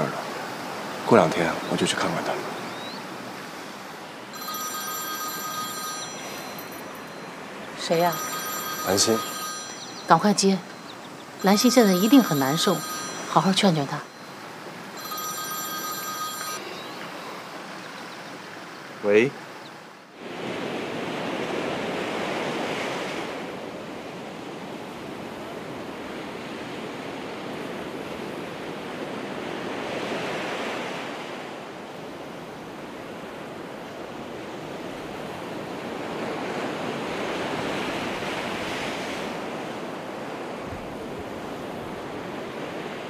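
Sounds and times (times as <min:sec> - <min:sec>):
ocean surf breaking: 0:00.0 - 0:43.0.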